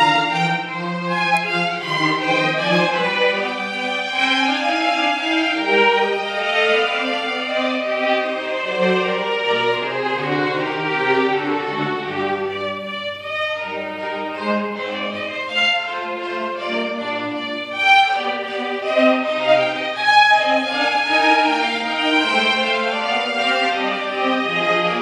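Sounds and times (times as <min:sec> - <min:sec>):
string orchestra playing: 0:00.0 - 0:25.0.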